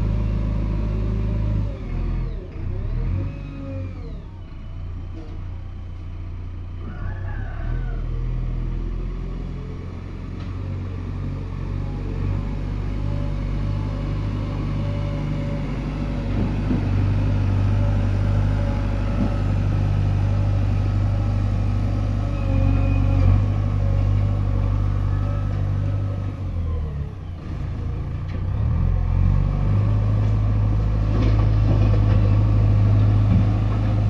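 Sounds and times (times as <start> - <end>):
diesel engine droning: 0.0 - 34.0.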